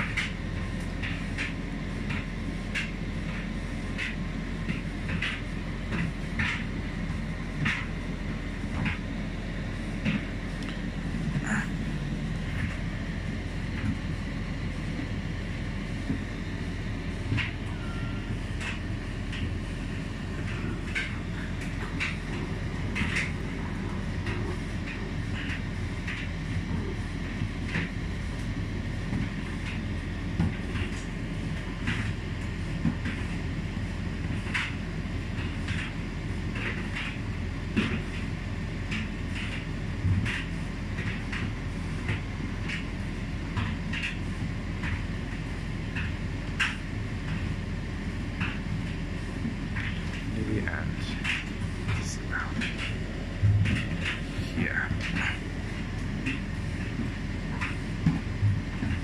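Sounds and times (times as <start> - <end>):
tumble dryer drum humming: 0.0 - 59.0.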